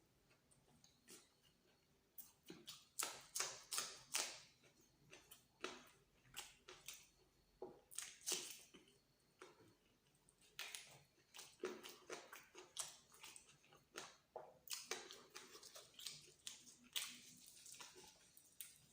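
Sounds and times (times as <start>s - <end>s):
person chewing food: 0.2s - 18.9s.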